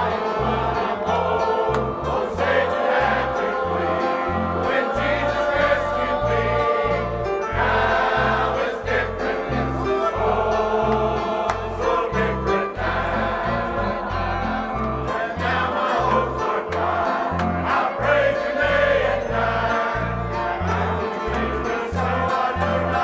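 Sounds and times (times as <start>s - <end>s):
choir singing a hymn: 0.0s - 23.0s
instrumental accompaniment: 0.0s - 23.0s.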